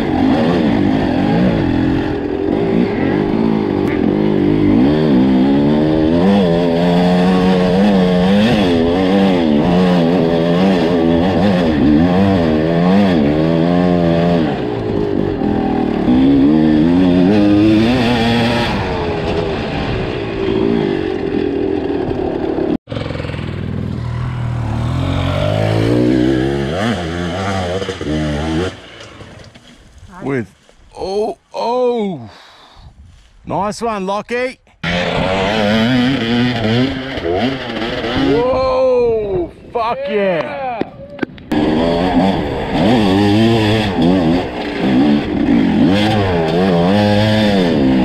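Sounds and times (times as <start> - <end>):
dirt bike engine revving: 0.0 - 29.7, 34.8 - 38.7, 41.5 - 48.0.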